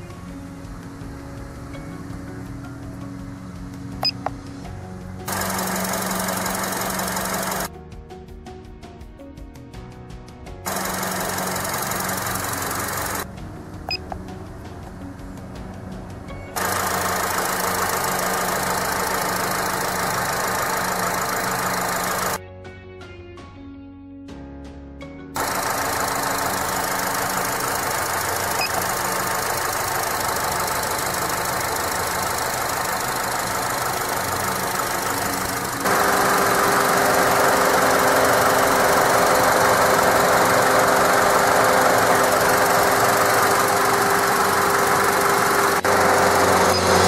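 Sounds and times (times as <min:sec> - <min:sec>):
car engine idling: 0:00.0 - 0:07.7, 0:10.6 - 0:22.4, 0:25.4 - 0:47.0.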